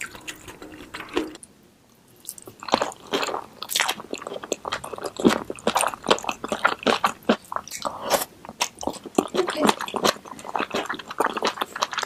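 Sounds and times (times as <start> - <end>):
close eating and chewing: 0.0 - 12.0.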